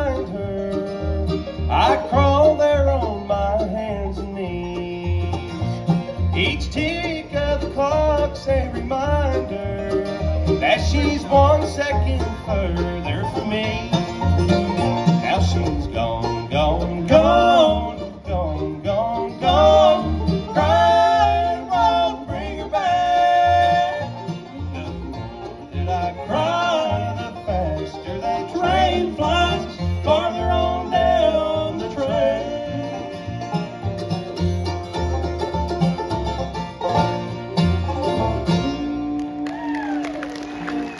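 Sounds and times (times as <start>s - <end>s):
bluegrass band playing: 0.0s - 40.9s.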